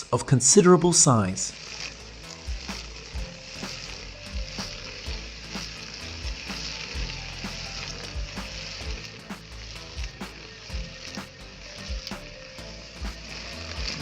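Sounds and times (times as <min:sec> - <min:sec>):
crackling hiss: 0:00.0 - 0:14.0
background music with low beat: 0:01.4 - 0:14.0.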